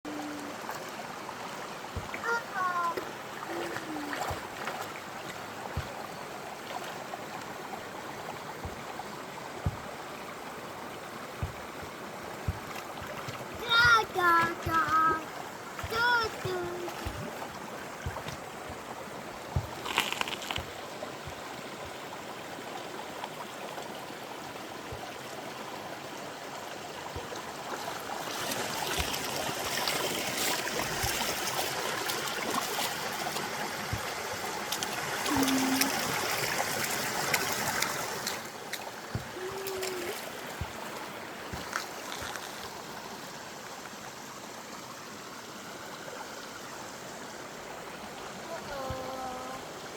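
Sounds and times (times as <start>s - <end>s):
stream water trickling: 0.1s - 49.9s.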